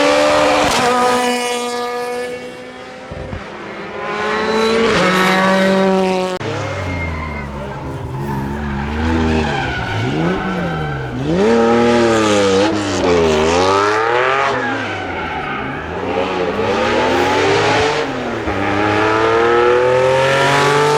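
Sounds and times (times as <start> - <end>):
rally car engine revving: 0.0 - 20.9.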